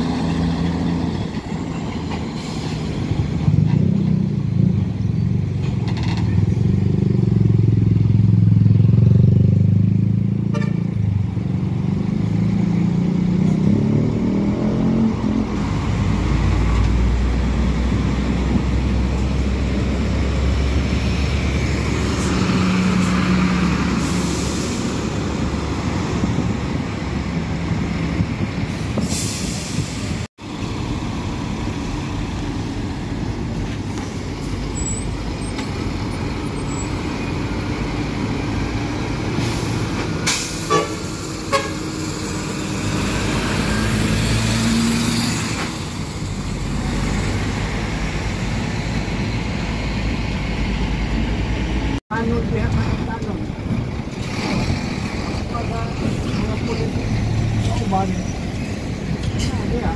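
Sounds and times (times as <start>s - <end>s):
street traffic noise: 0.0s - 59.9s
truck diesel engines passing: 0.0s - 59.9s.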